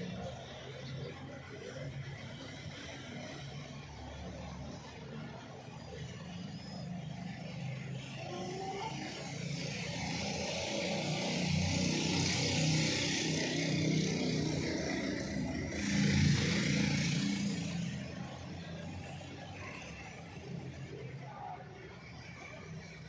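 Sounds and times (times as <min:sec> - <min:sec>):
vehicle engine hum: 0:00.0 - 0:23.0.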